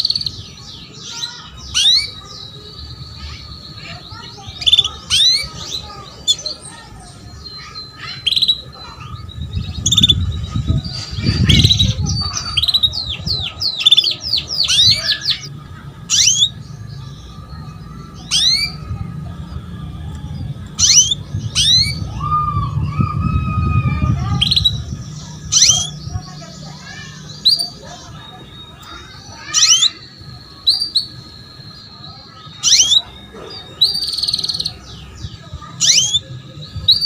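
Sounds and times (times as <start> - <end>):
canary chirping: 0.0 - 37.0.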